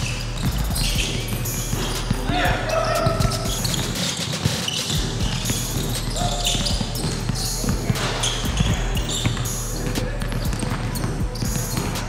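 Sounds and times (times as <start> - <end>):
sneakers squeaking on wood: 0.0 - 12.0
basketball bouncing on wood floor: 0.4 - 9.5, 10.2 - 12.0.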